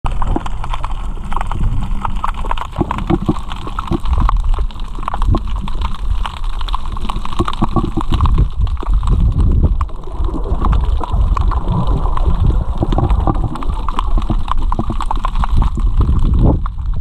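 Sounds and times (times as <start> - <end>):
underwater rumbling water: 0.0 - 17.0
small underwater clicks and crackles: 0.1 - 17.0.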